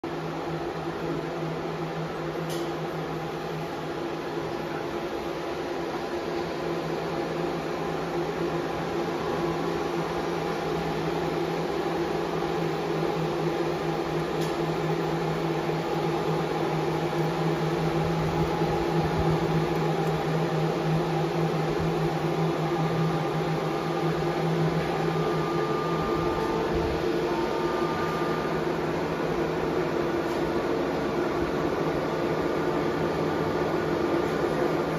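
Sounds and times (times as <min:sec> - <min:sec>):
cooling fan whir: 0:00.0 - 0:34.9
electrical hum: 0:00.0 - 0:34.9.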